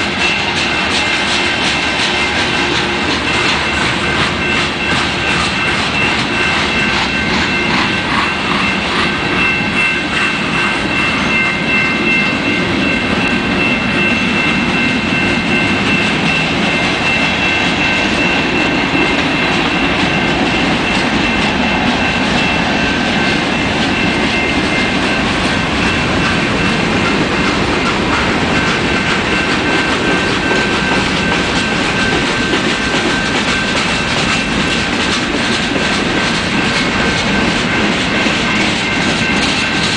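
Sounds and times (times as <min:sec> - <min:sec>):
diesel locomotive passing: 0:00.0 - 0:39.9
train wheels clacking on rails: 0:00.0 - 0:39.9.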